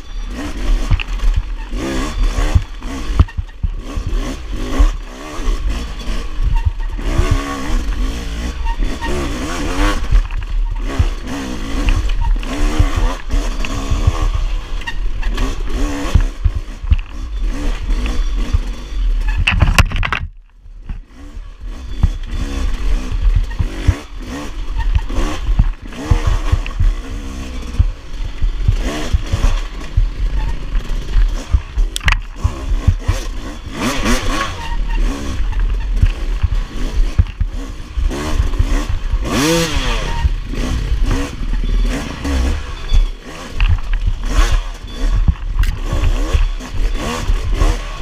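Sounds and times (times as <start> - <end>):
dirt bike engine revving: 0.0 - 48.0
knocks and rattles from bumps: 0.6 - 48.0.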